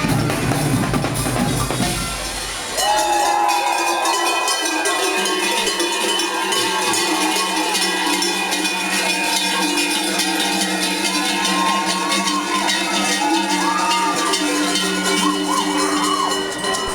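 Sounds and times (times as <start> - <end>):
cowbells clanging: 0.0 - 16.9.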